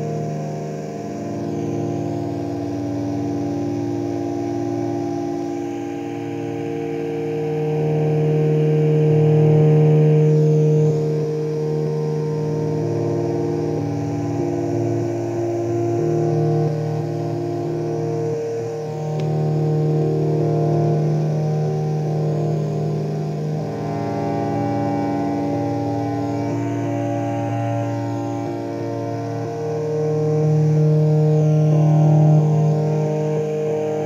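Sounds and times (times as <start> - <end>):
synthesizer drone: 0.0 - 34.0.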